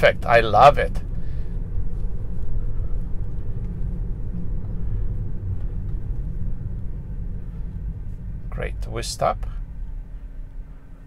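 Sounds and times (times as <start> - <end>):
road and tyre rumble in car cabin: 0.0 - 11.0.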